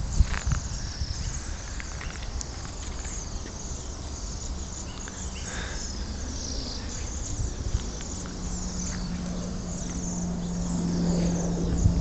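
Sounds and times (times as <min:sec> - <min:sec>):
flock of songbirds trilling: 0:00.0 - 0:12.0.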